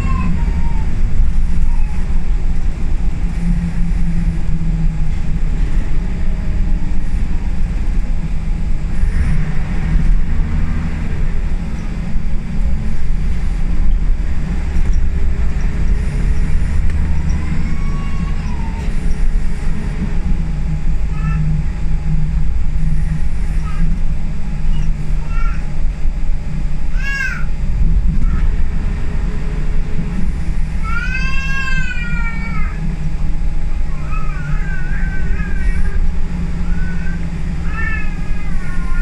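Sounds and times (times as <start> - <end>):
bus engine drone: 0.0 - 39.0
road rumble: 0.0 - 39.0.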